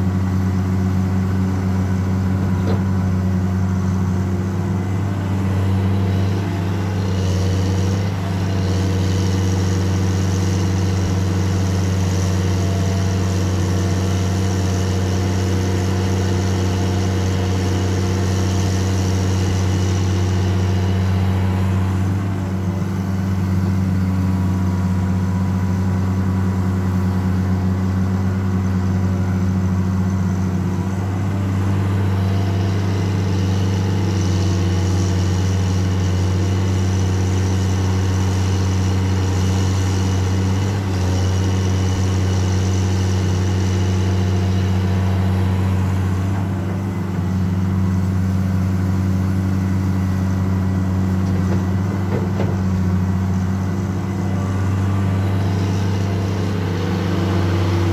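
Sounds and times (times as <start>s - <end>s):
excavator diesel engine droning: 0.0s - 57.9s.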